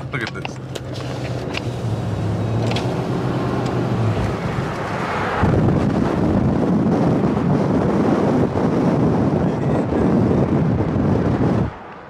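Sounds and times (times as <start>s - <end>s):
car engine humming: 0.0s - 12.0s
wind rushing over microphone: 0.0s - 12.0s.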